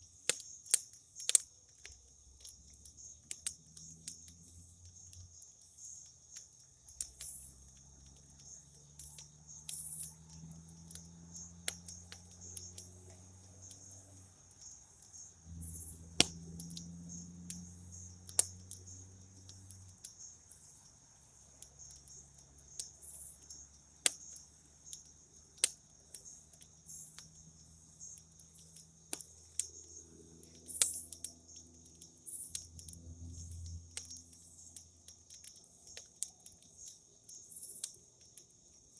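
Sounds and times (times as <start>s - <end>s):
campfire crackling and popping: 0.0s - 38.9s
crickets chirping: 0.0s - 38.9s.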